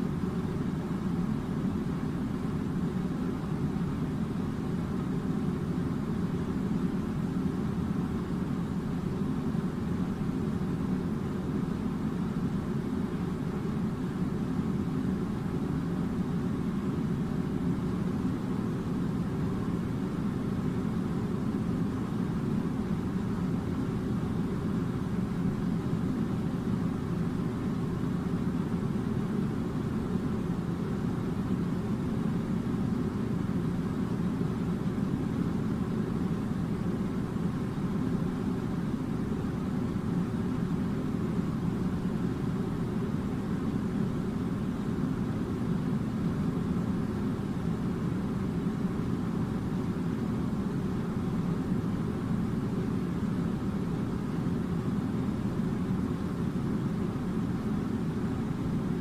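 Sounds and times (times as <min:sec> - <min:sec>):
faint constant tone: 0:00.0 - 0:59.0.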